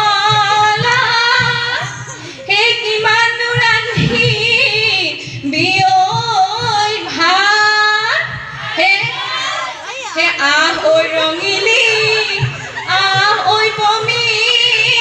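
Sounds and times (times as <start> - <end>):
women singing folk song: 0.0 - 15.0.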